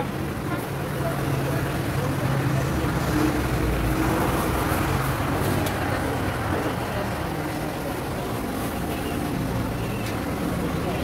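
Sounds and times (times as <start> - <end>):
indistinct background chatter: 0.0 - 11.0
rumble of passing vehicles: 0.0 - 11.0.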